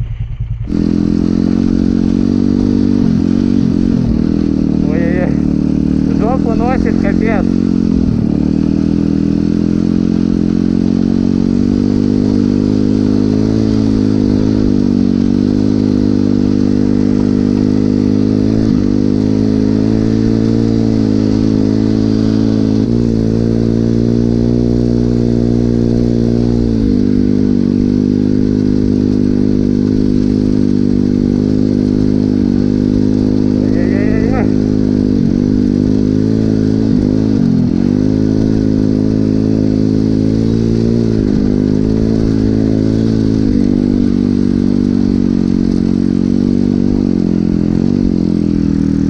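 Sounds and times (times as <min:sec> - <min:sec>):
pit bike engine running: 0:00.0 - 0:49.0.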